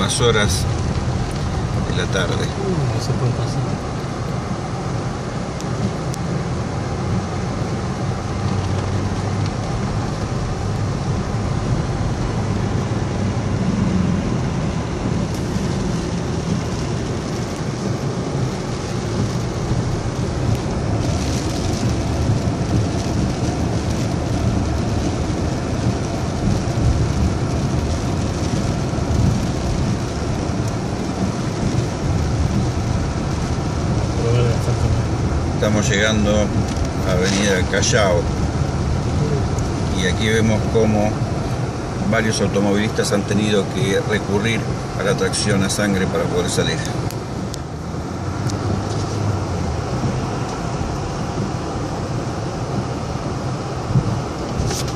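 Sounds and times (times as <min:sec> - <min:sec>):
engine and tyres on wet road: 0:00.0 - 0:54.9
rain hissing: 0:00.0 - 0:54.9.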